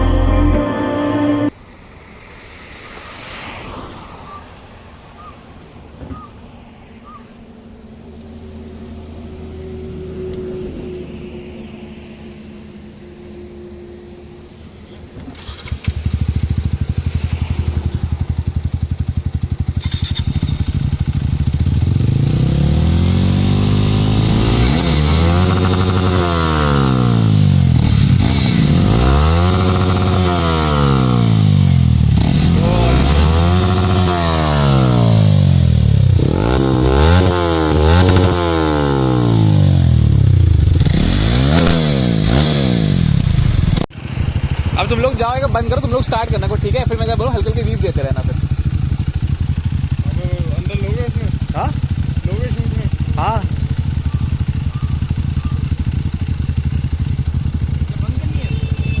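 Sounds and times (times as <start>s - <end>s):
motorcycle engine idling and revving: 7.0s - 59.0s.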